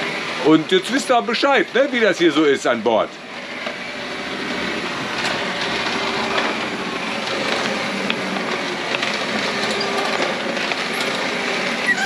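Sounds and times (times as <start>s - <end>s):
electric hand mixer whirring: 0.0s - 12.0s
hand mill grinding grains: 0.0s - 12.0s.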